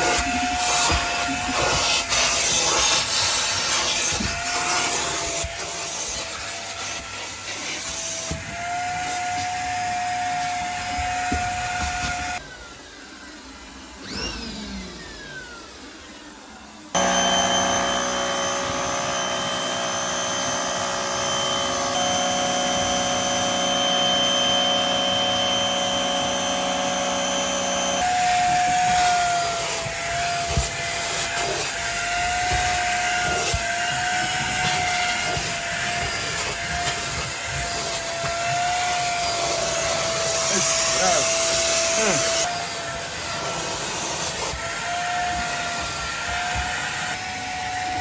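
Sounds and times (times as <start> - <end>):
vacuum cleaner motor whine: 0.0 - 48.0.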